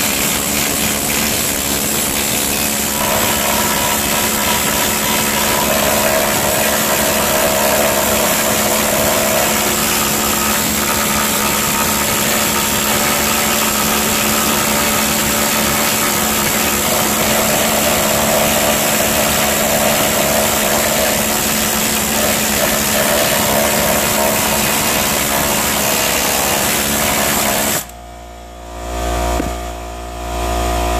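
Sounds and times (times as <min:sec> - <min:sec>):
air needle scaler hammering steel: 0:00.0 - 0:28.0.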